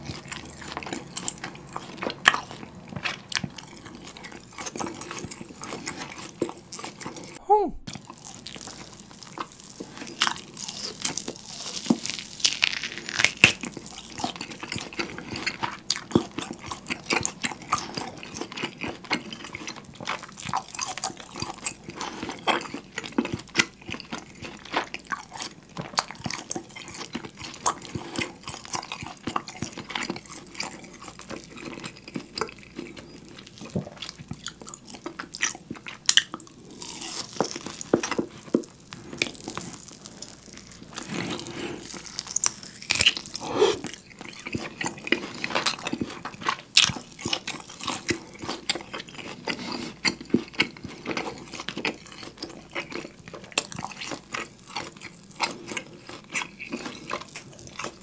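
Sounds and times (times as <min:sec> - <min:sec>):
chewing steak wetly: 0:00.0 - 0:58.0.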